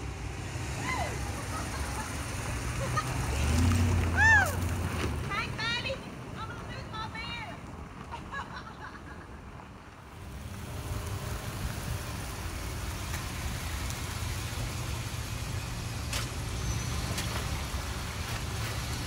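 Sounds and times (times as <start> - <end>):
motor vehicle rumble and hiss: 0.0 - 19.0.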